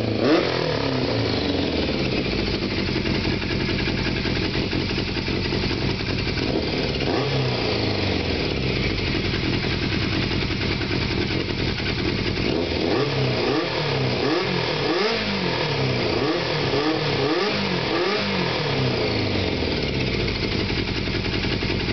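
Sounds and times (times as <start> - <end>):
motorcycle engine idling and revving: 0.0 - 21.9.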